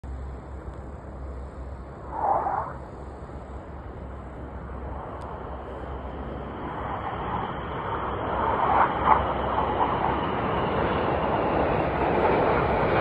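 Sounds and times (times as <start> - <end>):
rushing jet roar: 1.2 - 13.0.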